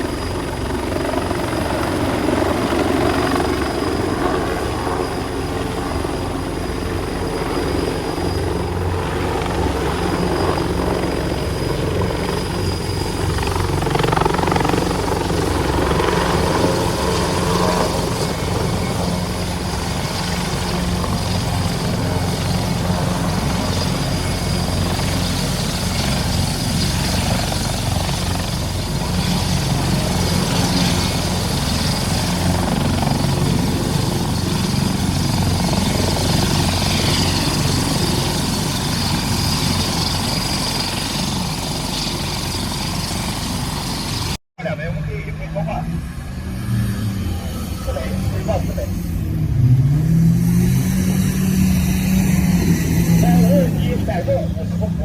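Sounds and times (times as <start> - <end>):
loud machine drone: 0.0 - 55.0.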